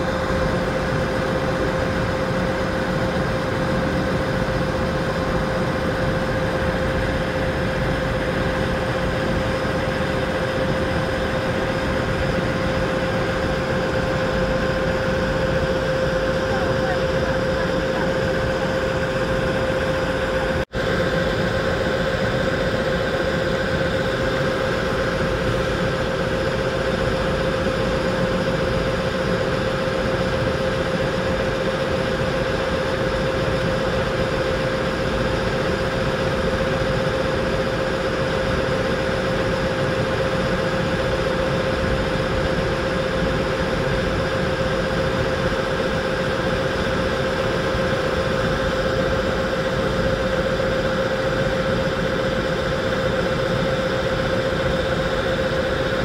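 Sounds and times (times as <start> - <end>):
ship engine drone: 0.0 - 56.0.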